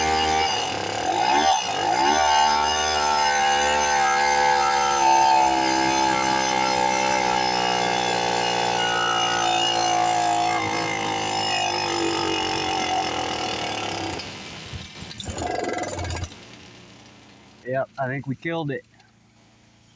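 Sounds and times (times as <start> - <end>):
two-stroke engine running: 0.0 - 19.9.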